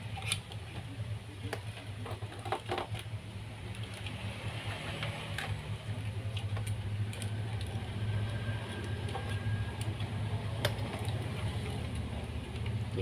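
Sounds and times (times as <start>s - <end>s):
wires and circuit board rustling: 0.0s - 13.0s.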